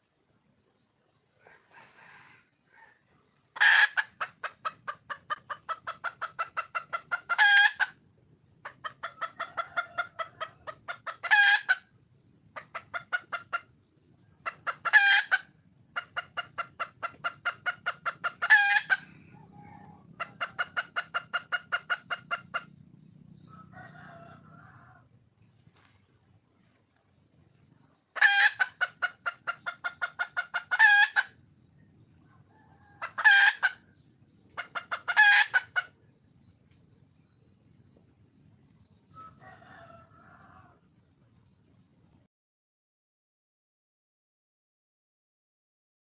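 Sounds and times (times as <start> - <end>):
hen clucking: 0.7 - 40.8.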